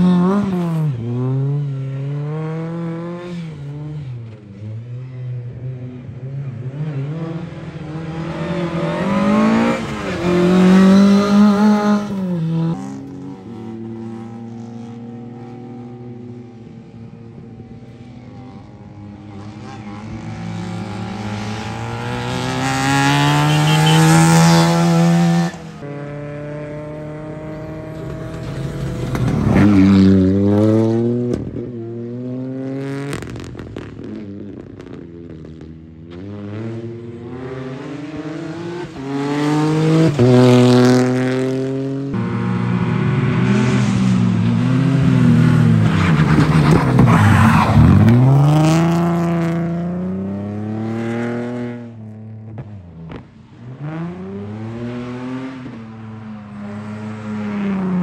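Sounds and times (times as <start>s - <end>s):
rally car engines accelerating: 0.0s - 33.4s, 34.1s - 58.0s.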